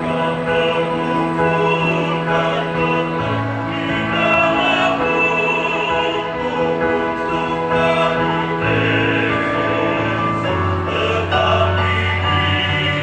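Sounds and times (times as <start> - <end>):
choir singing in harmony: 0.0 - 13.0.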